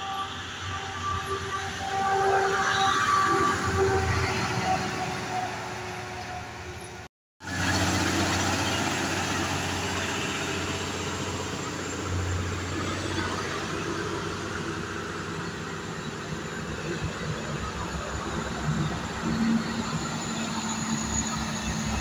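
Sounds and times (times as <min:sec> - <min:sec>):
heavy diesel trucks passing: 0:00.0 - 0:22.0.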